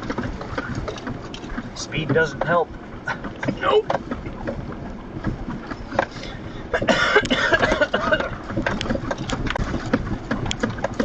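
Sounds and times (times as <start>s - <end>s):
truck cab knocks and rattles: 0.0s - 11.0s.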